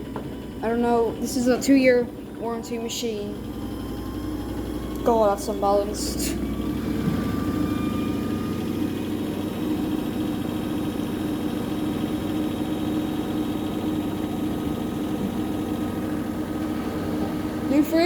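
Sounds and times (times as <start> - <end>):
washing machine spinning: 0.0 - 18.0.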